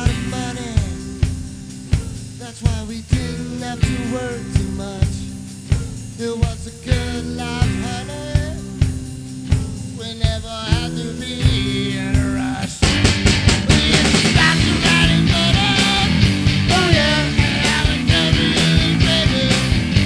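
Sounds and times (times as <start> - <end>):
band playing a song: 0.0 - 20.0
drum kit beat: 0.0 - 20.0.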